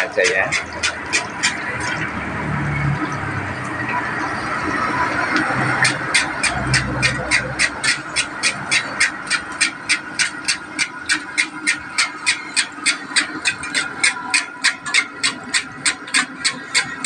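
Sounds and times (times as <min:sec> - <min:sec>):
fast steady ticking: 0:00.0 - 0:17.0
food deep-frying in oil: 0:00.0 - 0:17.0.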